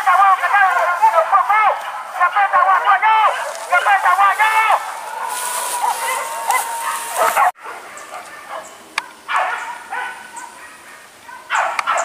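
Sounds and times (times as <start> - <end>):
dog barking: 0.7 - 12.0.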